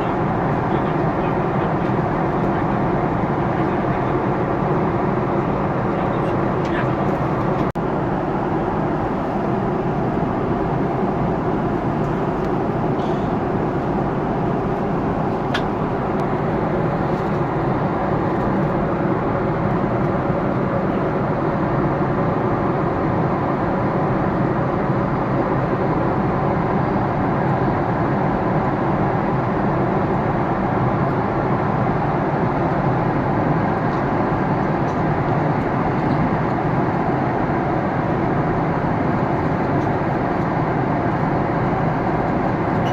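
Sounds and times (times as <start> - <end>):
airliner cabin drone: 0.0 - 42.9.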